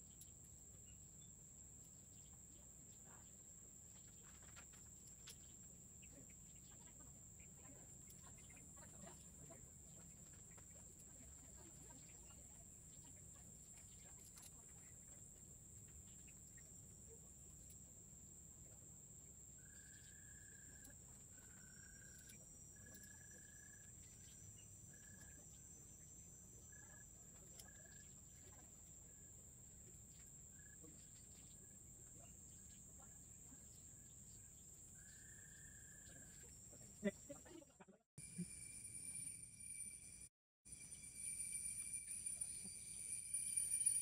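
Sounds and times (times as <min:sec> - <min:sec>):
high insect drone: 0:02.2 - 0:37.4, 0:38.2 - 0:44.0.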